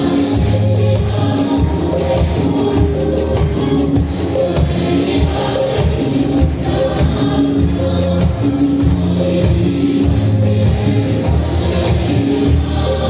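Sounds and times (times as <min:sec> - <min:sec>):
electronic percussion pads: 0:00.0 - 0:13.0.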